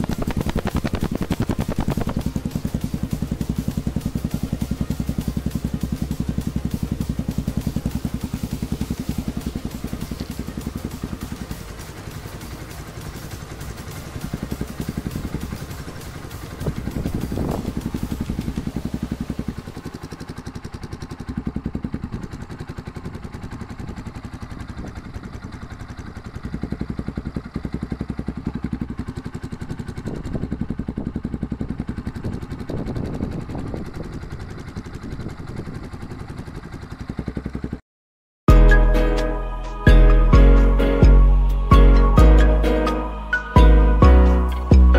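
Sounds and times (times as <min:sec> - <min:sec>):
motorcycle engine idling and revving: 0:00.0 - 0:37.8, 0:38.5 - 0:44.9.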